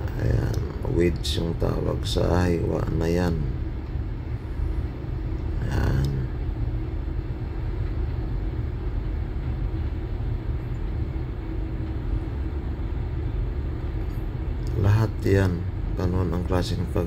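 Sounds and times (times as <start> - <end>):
faint steady hum: 0.0 - 17.0
low mechanical rumble: 0.0 - 17.0.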